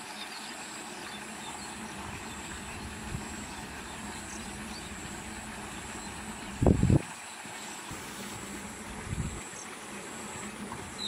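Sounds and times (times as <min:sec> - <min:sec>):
faint high hum: 0:00.1 - 0:11.0
background rumble and hiss: 0:00.7 - 0:11.0.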